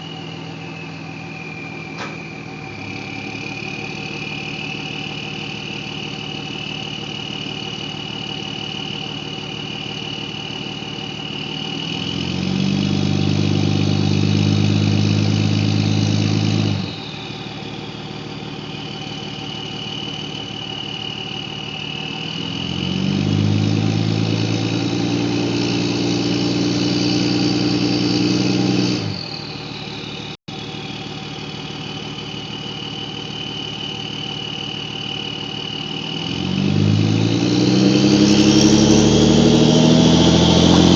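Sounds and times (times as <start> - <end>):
diesel truck engine idling and revving: 0.0 - 40.9
turbo whistle: 0.0 - 40.9.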